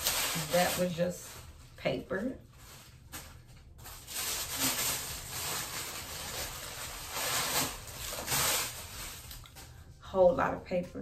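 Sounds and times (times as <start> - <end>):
wrapping paper rustling: 0.0 - 9.9.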